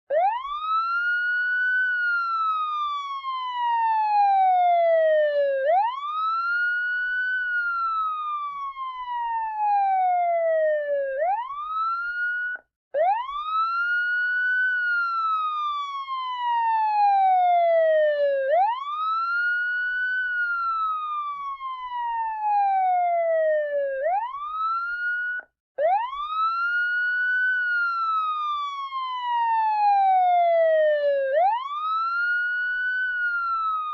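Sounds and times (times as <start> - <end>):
siren wailing: 0.1 - 33.9.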